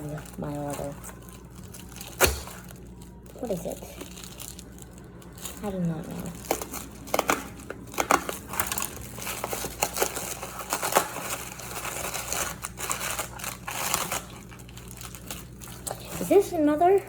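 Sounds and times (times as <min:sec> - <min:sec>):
packing wrap crinkling: 0:00.0 - 0:17.0.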